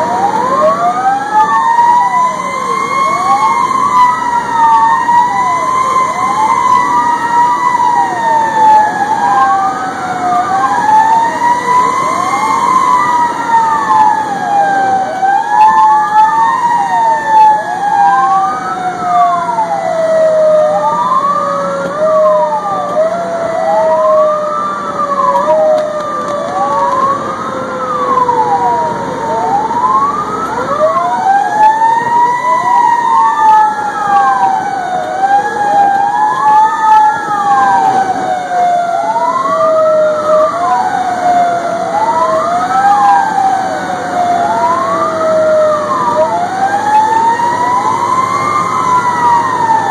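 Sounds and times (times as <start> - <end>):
electronic siren wailing: 0.0 - 49.9
slow falling siren: 0.0 - 49.9.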